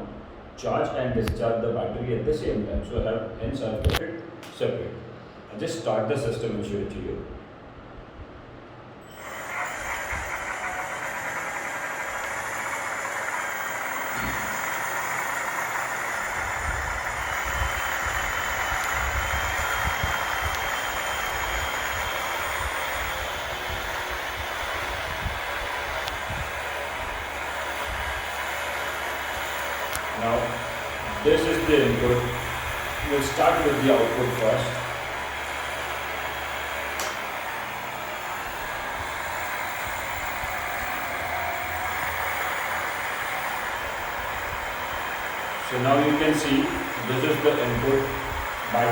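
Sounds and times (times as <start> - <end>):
electric motor whirring hum: 9.0 - 48.9.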